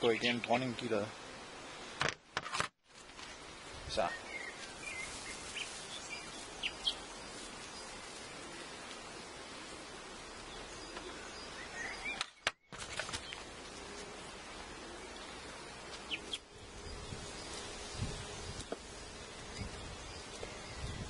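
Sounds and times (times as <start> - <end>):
birds chirping: 0.0 - 1.0, 3.9 - 14.0, 14.6 - 21.0
honeybees humming: 0.0 - 2.0, 2.9 - 21.0.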